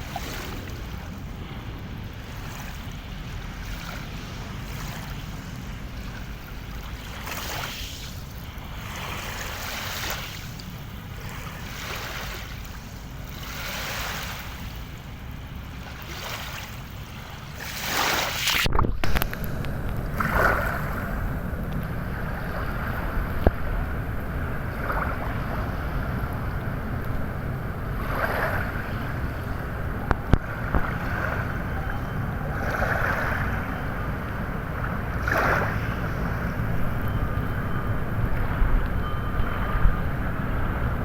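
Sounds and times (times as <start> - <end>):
water waves washing: 0.0 - 41.0
wind rumble on microphone: 0.0 - 41.0.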